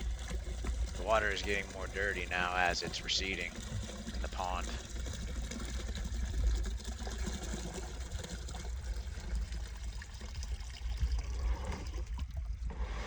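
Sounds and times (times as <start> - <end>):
water pouring from a bucket: 0.0 - 13.0.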